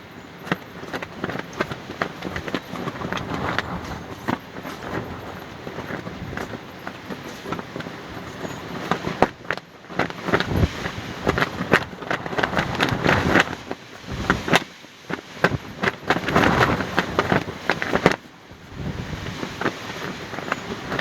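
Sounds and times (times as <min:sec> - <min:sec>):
fabric flapping in wind: 0:00.0 - 0:21.0
wind noise on microphone: 0:00.0 - 0:21.0.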